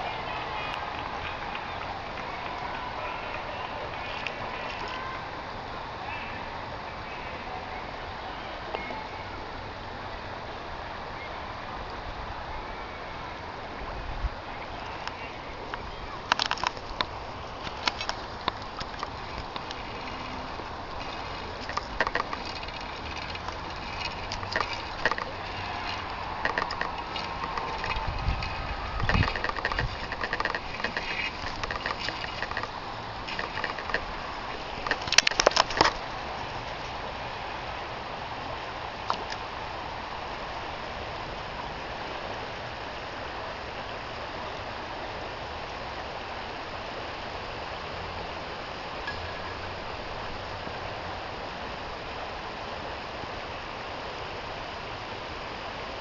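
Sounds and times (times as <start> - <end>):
river water over rocks: 0.0 - 56.0.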